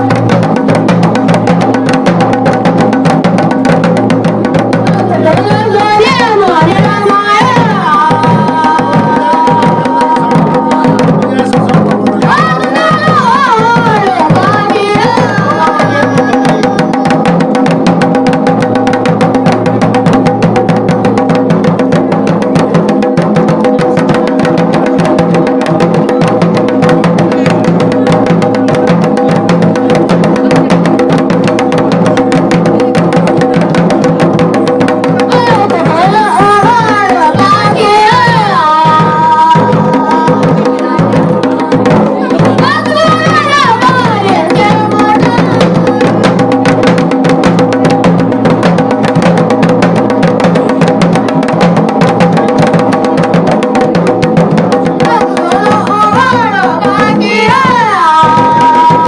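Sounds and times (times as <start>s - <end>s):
drum beaten in fast rhythm: 0.0s - 59.0s.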